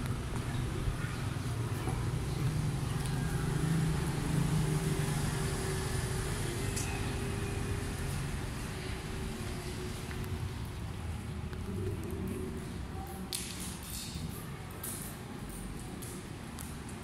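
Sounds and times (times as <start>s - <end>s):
low rumble of vehicle engines: 0.0s - 17.0s.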